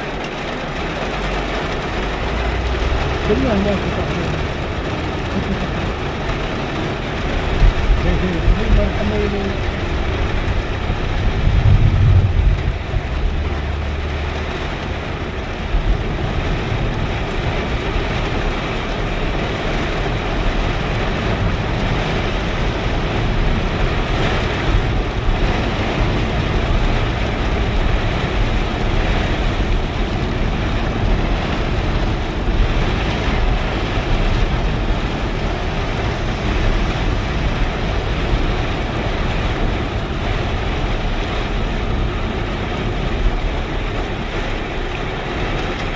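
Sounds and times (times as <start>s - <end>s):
steady rain: 0.0s - 45.9s
low rumble: 0.7s - 45.9s.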